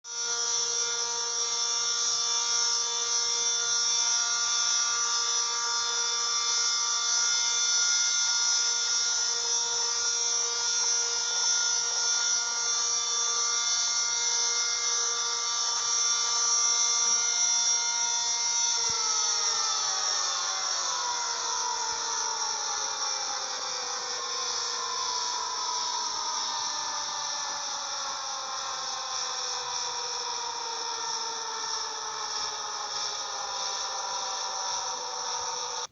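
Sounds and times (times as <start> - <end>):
air raid siren: 0.1 - 35.9.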